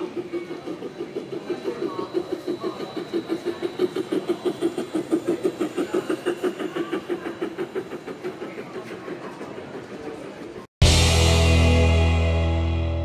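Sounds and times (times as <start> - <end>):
model train running on track: 0.0 - 10.7.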